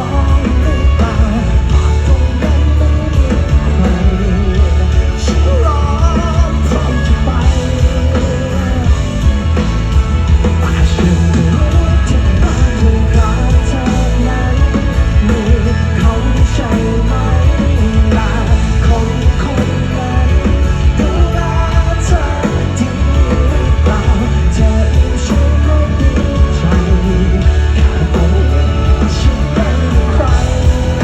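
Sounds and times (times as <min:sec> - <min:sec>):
person singing: 0:00.0 - 0:31.0
rock band playing live: 0:00.0 - 0:31.0.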